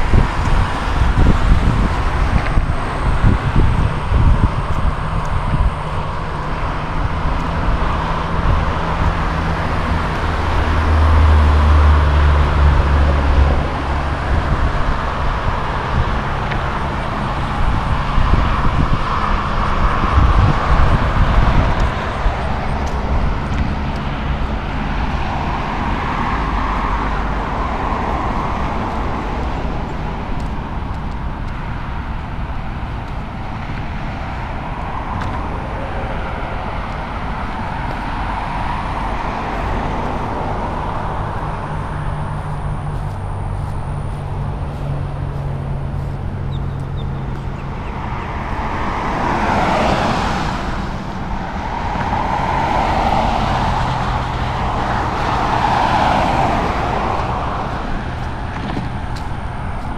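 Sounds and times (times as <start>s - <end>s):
cars passing with tyre noise: 0.0s - 59.9s
heavy engine low drone: 0.0s - 59.9s.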